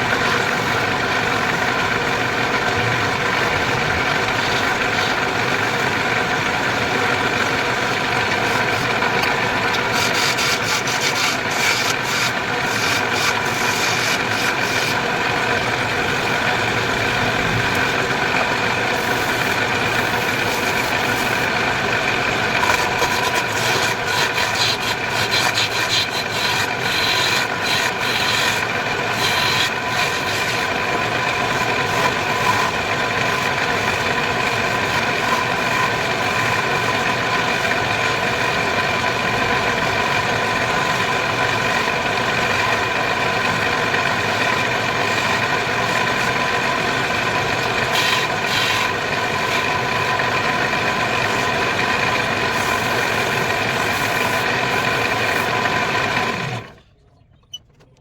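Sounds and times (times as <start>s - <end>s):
turning tool cutting spinning wood: 0.0s - 56.8s
wood lathe motor whine: 0.0s - 56.8s.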